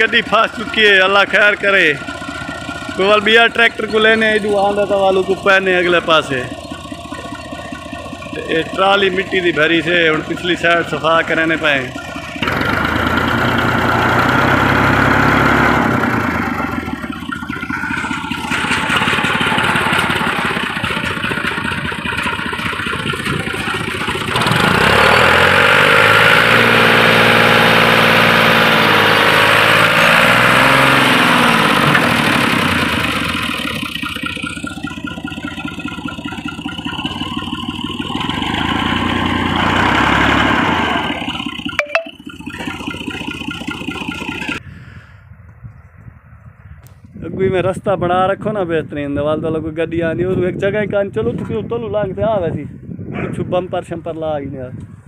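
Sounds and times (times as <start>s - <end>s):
tractor diesel engine labouring: 0.0s - 45.1s.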